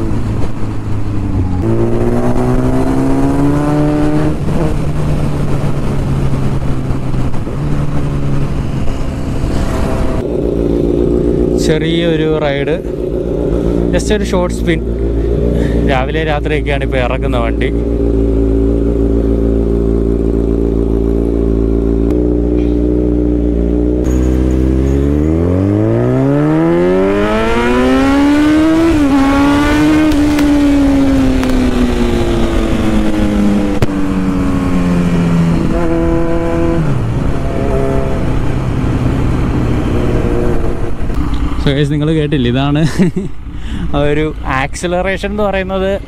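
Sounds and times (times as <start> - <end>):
motorcycle engine accelerating: 0.0 - 43.5.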